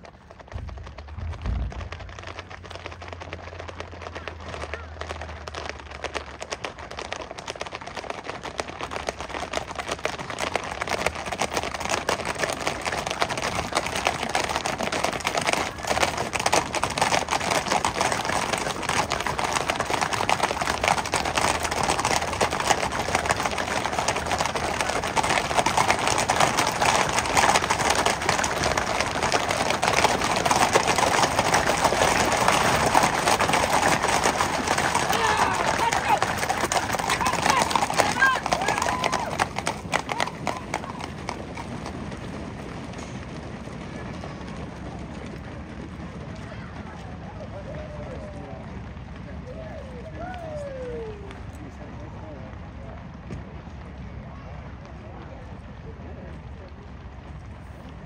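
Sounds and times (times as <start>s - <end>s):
horse hooves on gravel: 0.0s - 49.2s.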